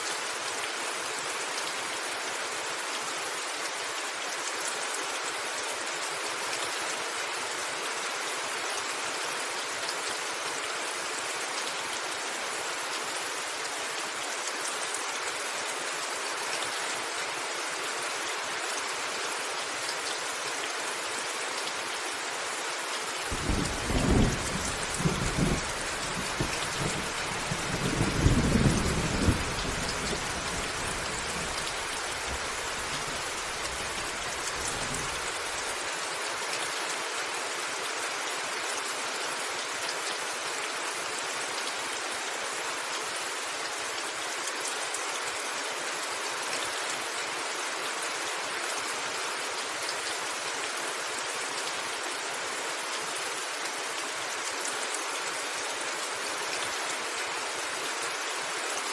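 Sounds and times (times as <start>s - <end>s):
rain pattering on a roof: 0.0s - 58.9s.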